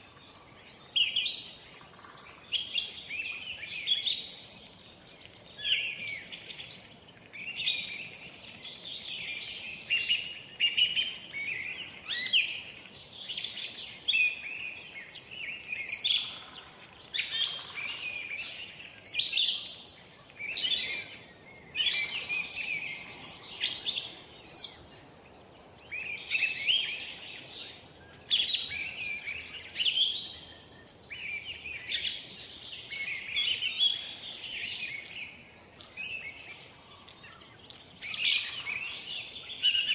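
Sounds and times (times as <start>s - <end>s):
birds chirping and trilling: 5.5s - 39.9s.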